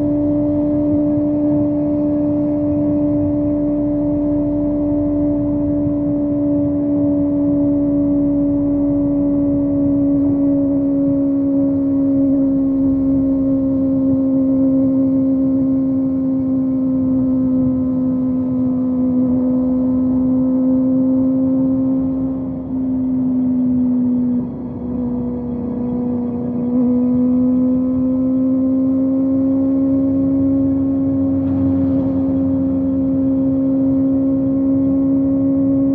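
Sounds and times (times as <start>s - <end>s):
motorcycle engine at high revs: 0.0s - 35.9s.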